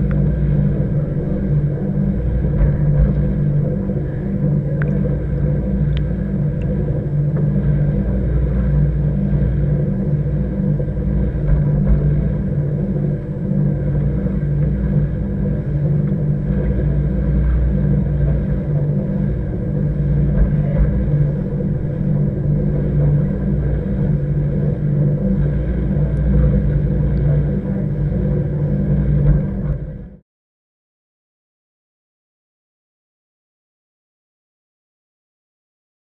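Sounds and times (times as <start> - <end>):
motor hum: 0.0 - 30.2
muffled underwater rumble: 0.0 - 30.2.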